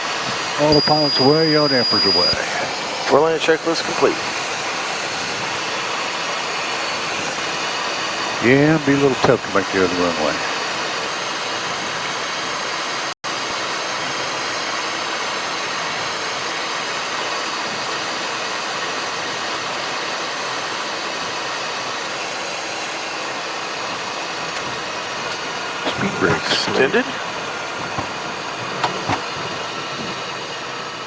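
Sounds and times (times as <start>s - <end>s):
jet cockpit engine and airflow hiss: 0.0s - 31.0s.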